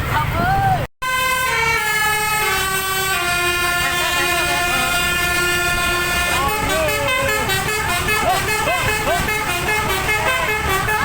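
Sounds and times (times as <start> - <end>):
musical air horn chords: 1.0 - 11.0.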